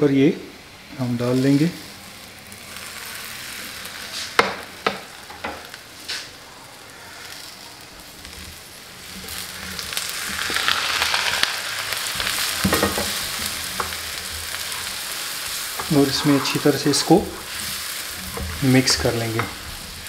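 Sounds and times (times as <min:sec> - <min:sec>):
wet hiss and sizzle: 0:00.0 - 0:20.0.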